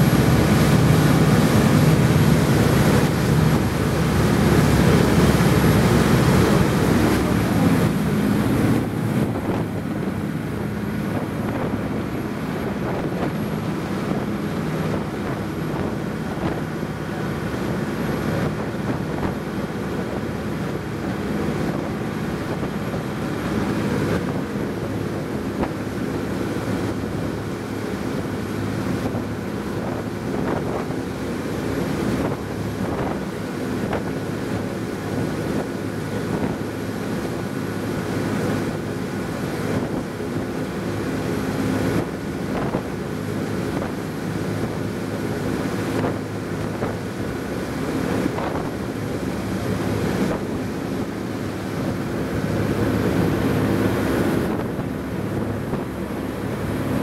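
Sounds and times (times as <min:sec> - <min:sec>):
boat engine droning: 0:00.0 - 0:57.0
rush of boat wake: 0:00.0 - 0:57.0
wind buffeting microphone: 0:00.0 - 0:57.0.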